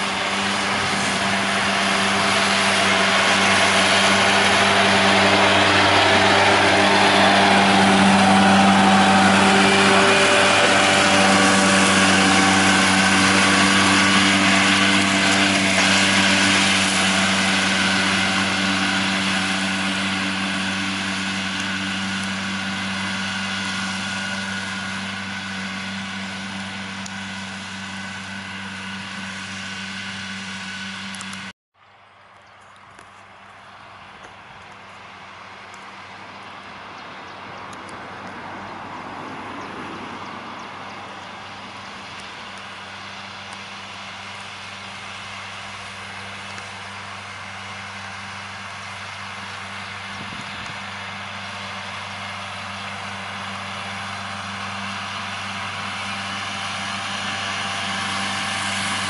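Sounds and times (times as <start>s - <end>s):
disc mower whirring hiss: 0.0s - 31.5s, 41.3s - 59.0s
tractor diesel engine running: 0.0s - 59.0s.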